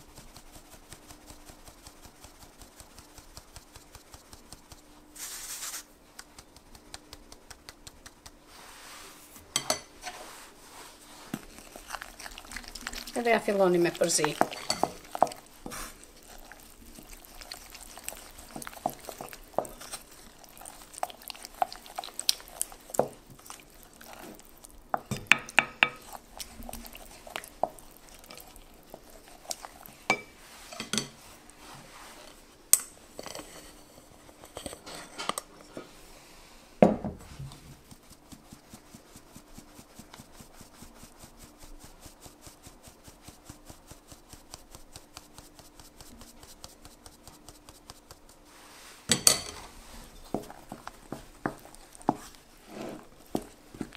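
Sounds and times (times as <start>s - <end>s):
wooden spoon stirring dough: 0.0s - 32.5s, 33.1s - 36.3s, 37.0s - 53.9s.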